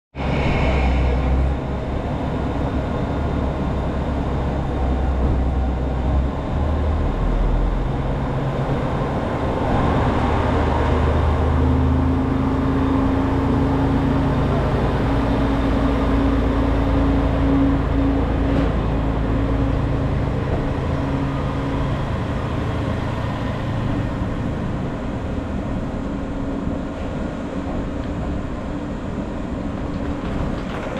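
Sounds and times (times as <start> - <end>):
diesel railcar engine droning: 0.1 - 30.9.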